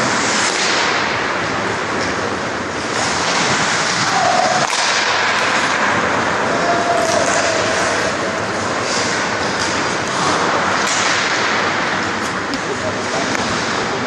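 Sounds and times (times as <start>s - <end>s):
sharp hockey clacks: 0.0s - 14.0s
skates rushing on ice: 0.0s - 14.0s.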